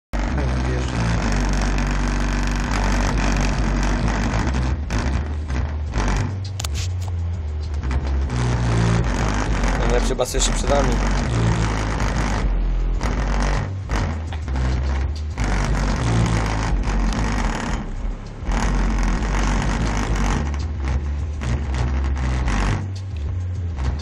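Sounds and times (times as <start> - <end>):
bass-heavy music from subwoofers: 0.1 - 24.0.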